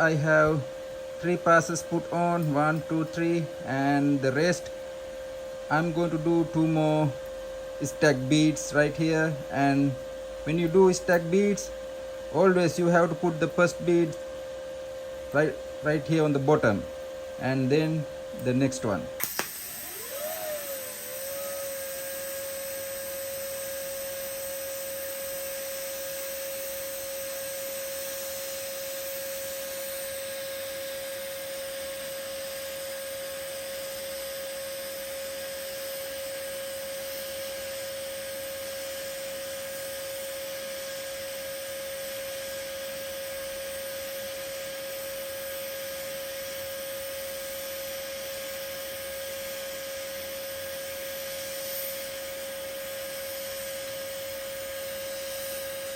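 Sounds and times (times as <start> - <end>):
welding arc humming and hissing: 0.0 - 55.9.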